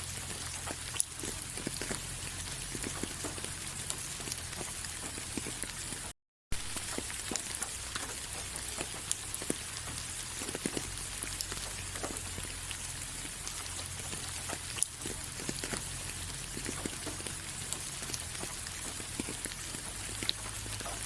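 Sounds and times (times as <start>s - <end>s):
rain falling: 0.0s - 21.0s
raindrops ticking and plopping: 0.0s - 21.0s.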